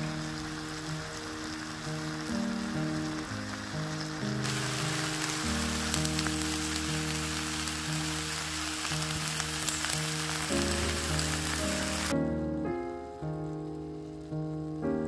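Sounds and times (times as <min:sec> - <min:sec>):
steaks sizzling on griddle: 0:00.0 - 0:12.2
background music: 0:00.0 - 0:15.0.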